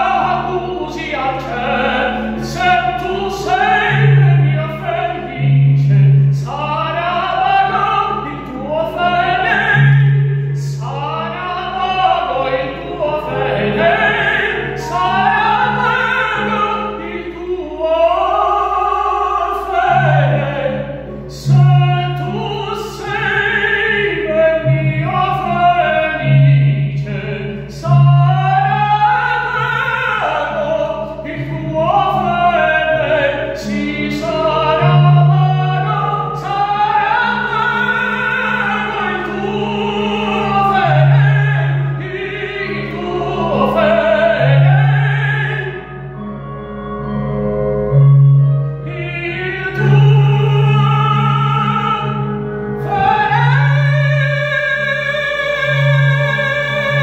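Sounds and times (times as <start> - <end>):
man singing opera: 0.0 - 46.3, 47.9 - 57.0
instrumental accompaniment: 0.0 - 57.0.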